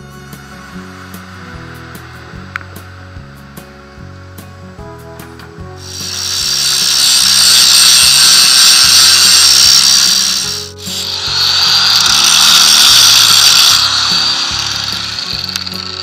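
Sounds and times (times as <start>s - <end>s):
angle grinder grinding steel: 0.0s - 4.8s, 5.8s - 16.0s
background music: 0.0s - 16.0s.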